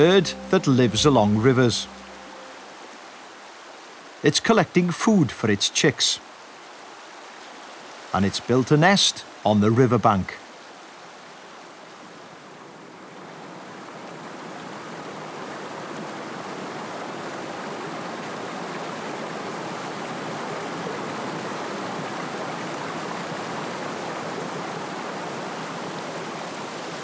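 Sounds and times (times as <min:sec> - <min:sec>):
river water rushing over stones: 0:00.0 - 0:27.0.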